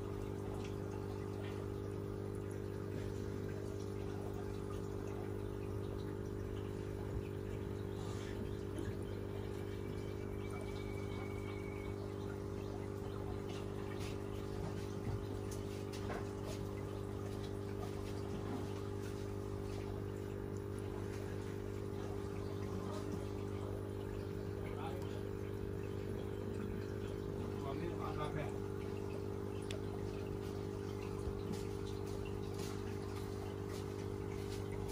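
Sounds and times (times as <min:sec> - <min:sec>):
aquarium equipment humming: 0:00.0 - 0:34.9.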